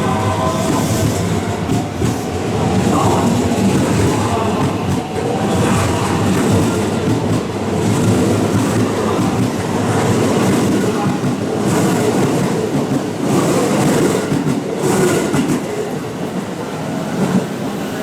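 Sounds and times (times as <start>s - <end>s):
electric train passing: 0.0s - 18.0s
train rattles: 0.0s - 18.0s.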